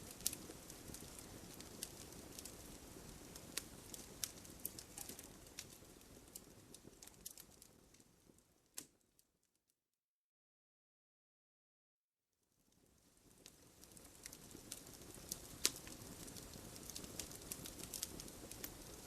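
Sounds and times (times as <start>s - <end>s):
fireplace fire crackling: 0.0s - 9.3s, 12.5s - 19.0s.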